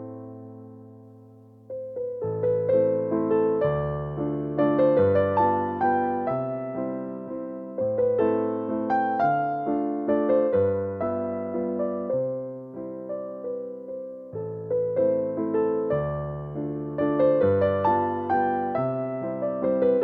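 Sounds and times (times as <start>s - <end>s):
gentle electric piano melody: 0.0s - 20.0s.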